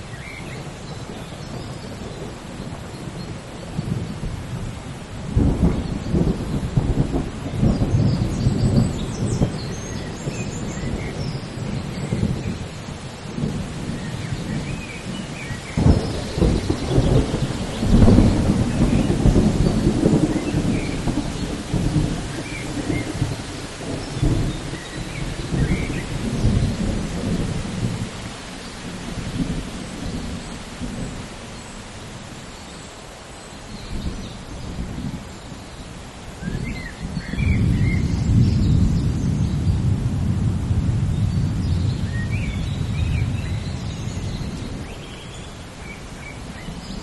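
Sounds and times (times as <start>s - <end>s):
steady rain: 0.0s - 47.0s
rolling thunder: 0.6s - 31.4s, 36.4s - 45.1s.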